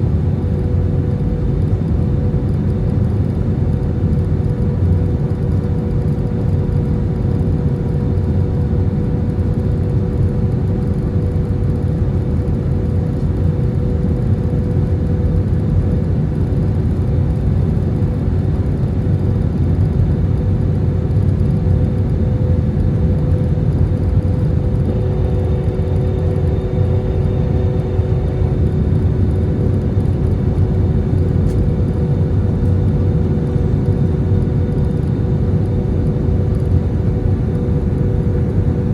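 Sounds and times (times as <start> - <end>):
constant droning hum: 0.0 - 38.9
jet engines and airflow roar: 0.0 - 38.9.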